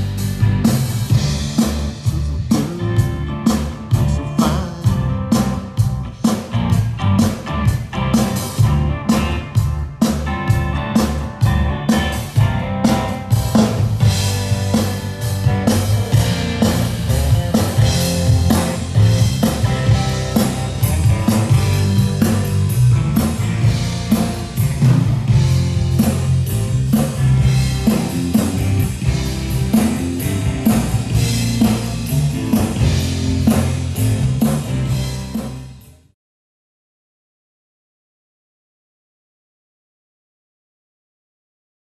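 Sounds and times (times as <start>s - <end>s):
rock band playing: 0.0s - 36.0s.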